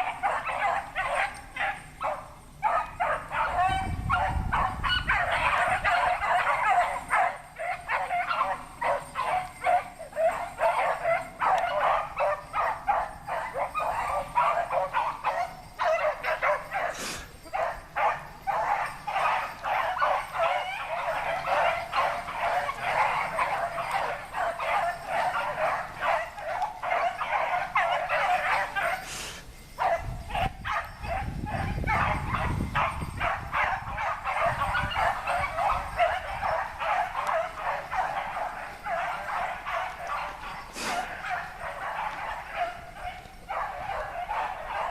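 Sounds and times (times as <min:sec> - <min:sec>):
hounds baying: 0:00.0 - 0:44.9.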